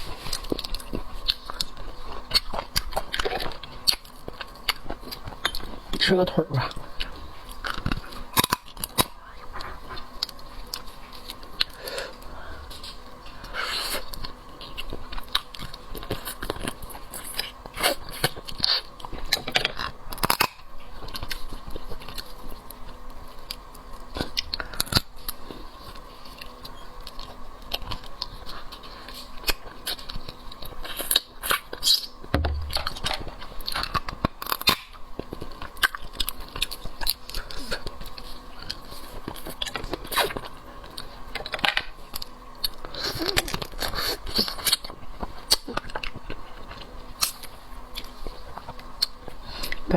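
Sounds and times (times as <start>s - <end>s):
chewing: 0.0s - 49.9s.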